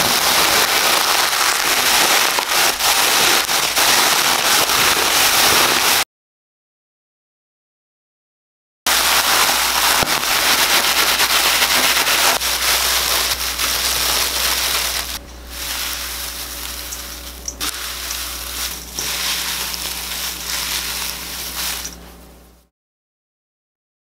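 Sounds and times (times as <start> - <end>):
dry seaweed sheets crackling: 0.0 - 6.0, 8.9 - 22.6.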